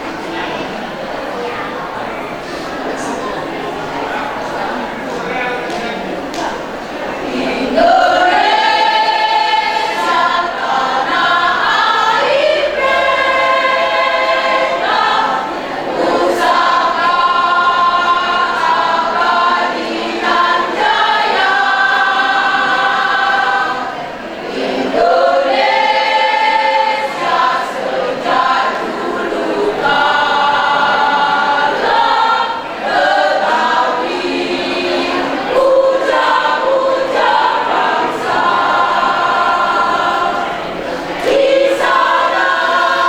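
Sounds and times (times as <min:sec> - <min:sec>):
choir singing: 0:06.4 - 0:43.0.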